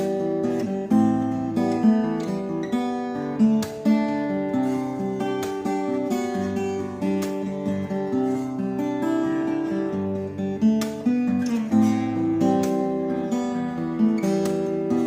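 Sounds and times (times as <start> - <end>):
acoustic guitar strummed and picked: 0.0 - 15.0.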